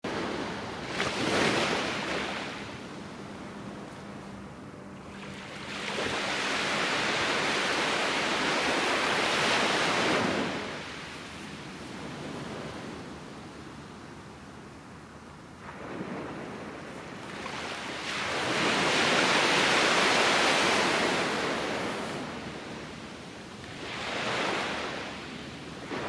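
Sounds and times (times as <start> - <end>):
ocean surf breaking: 0.0 - 4.4, 5.0 - 13.8, 15.6 - 26.0.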